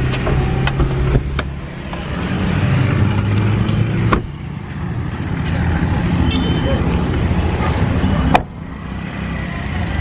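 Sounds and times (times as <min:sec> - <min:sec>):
car engine humming: 0:00.0 - 0:10.0.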